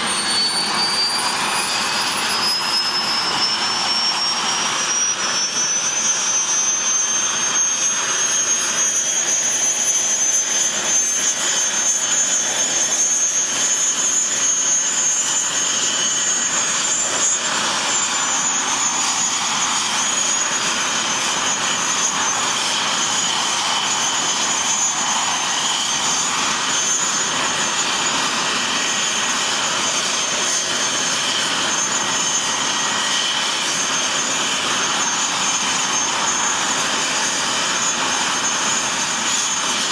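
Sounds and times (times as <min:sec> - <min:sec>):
high-pitched jet whine: 0:00.0 - 0:39.9
jet engine rush: 0:00.0 - 0:39.9.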